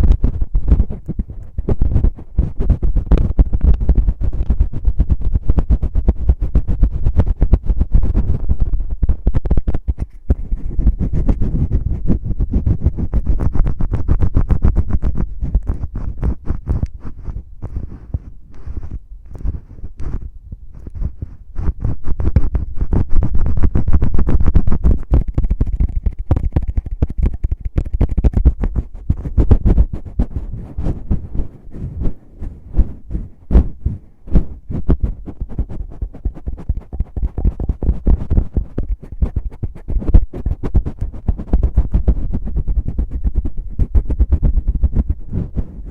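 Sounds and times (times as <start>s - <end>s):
fingers scratching microphone: 0.0s - 45.9s.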